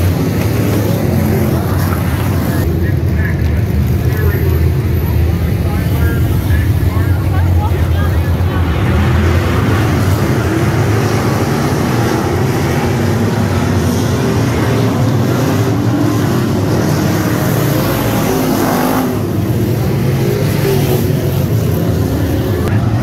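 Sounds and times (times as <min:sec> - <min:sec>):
race car engines running: 0:00.0 - 0:23.0.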